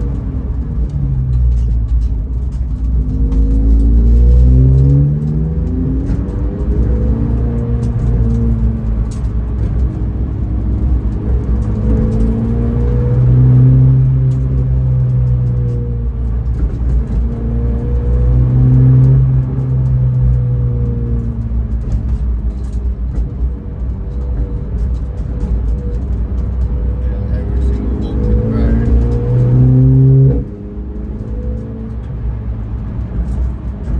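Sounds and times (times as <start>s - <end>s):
race car engine: 0.0s - 33.9s
road noise rumble: 0.0s - 33.9s.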